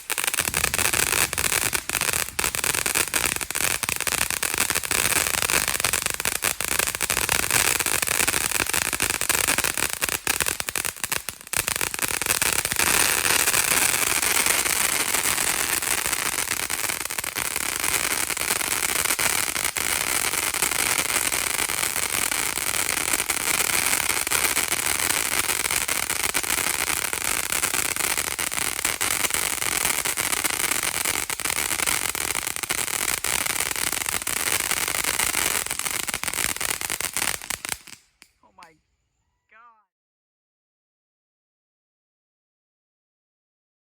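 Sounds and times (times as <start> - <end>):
firework fountain hissing: 0.0 - 38.7
firework crackling: 0.0 - 38.8.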